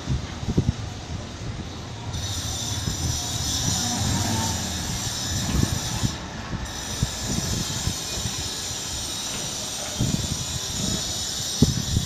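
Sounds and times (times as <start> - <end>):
sliding gate rolling on rail: 2.0 - 11.7.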